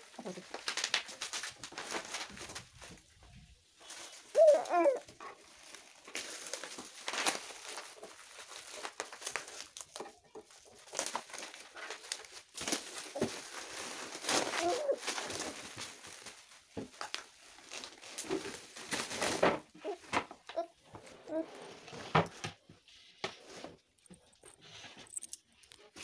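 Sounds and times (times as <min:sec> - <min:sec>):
plastic film crinkling: 0:00.0 - 0:21.4, 0:23.4 - 0:26.0.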